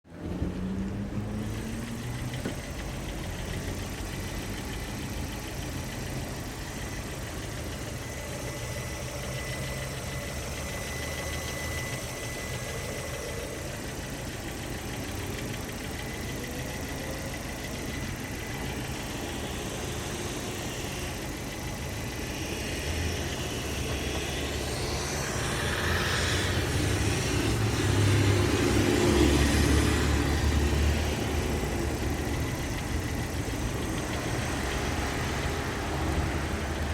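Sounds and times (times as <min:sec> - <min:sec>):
car engine knocking: 0:00.0 - 0:36.9.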